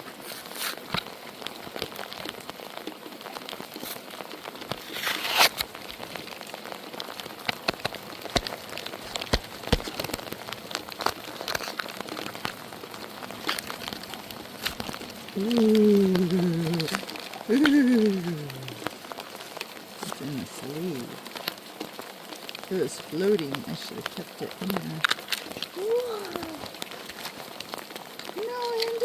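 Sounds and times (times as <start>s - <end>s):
light rain falling: 0.0s - 29.0s
raindrops ticking on surfaces: 0.0s - 29.0s
splash or rustle: 0.0s - 29.0s.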